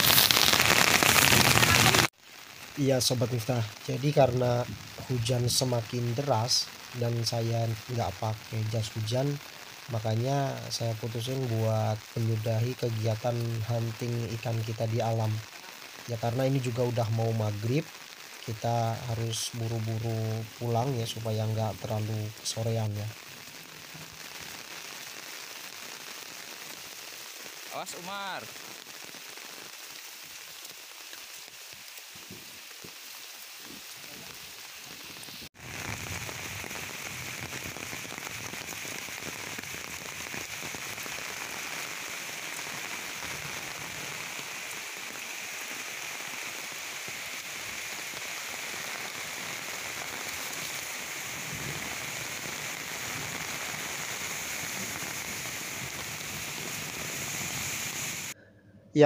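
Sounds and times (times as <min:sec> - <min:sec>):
heavy rain on leaves: 0:00.0 - 0:58.4.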